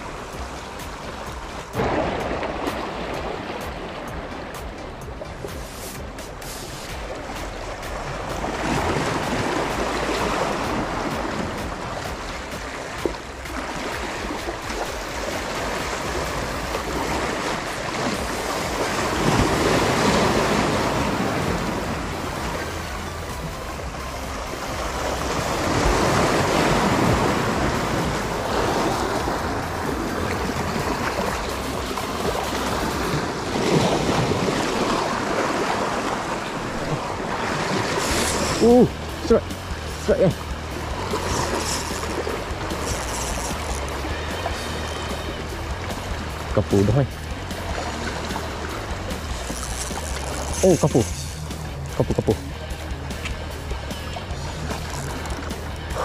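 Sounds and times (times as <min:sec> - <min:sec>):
sea waves washing against rocks: 0:00.0 - 0:52.3.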